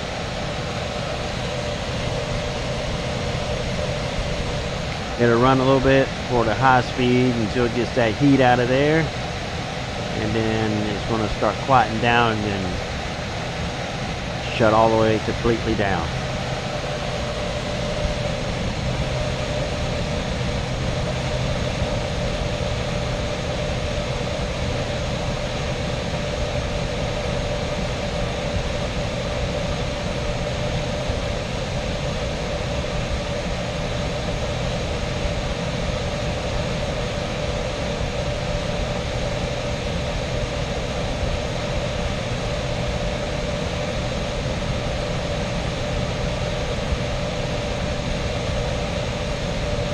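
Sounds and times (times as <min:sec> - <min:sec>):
air handler blower running: 0:00.0 - 0:49.9.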